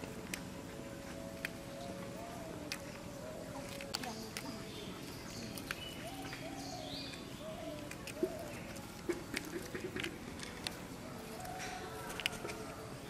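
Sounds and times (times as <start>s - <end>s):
flowers being handled: 0.0s - 13.0s.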